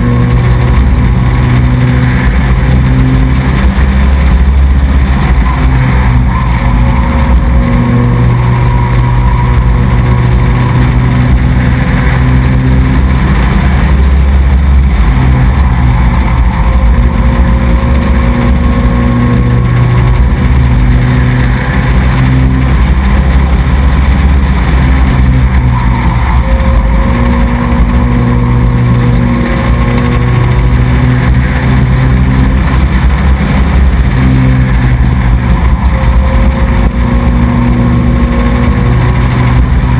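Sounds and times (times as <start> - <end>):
racing truck engine running hard: 0.0 - 39.9.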